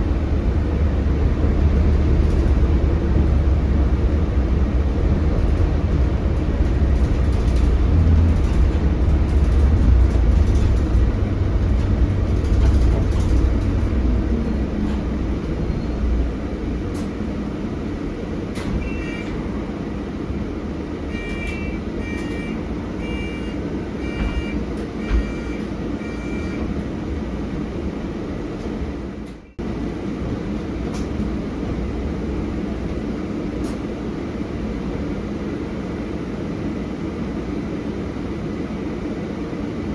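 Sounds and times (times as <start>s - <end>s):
bus engine drone from inside: 0.0s - 39.9s.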